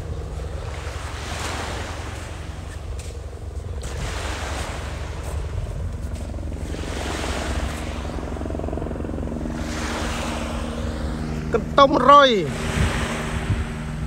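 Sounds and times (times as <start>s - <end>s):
distant engine drone: 0.0s - 14.0s
small waves washing on shore: 0.0s - 14.0s
wind on microphone: 0.0s - 14.0s.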